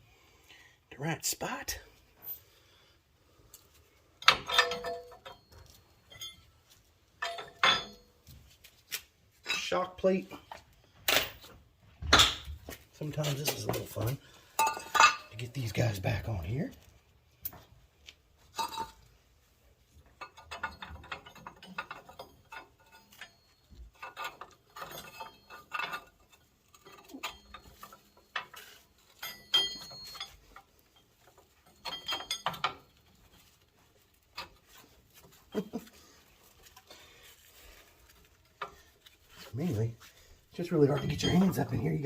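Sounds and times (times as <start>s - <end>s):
metal bolts clinking and clanking: 4.2s - 8.5s, 9.4s - 17.7s, 18.4s - 19.2s, 19.9s - 42.0s.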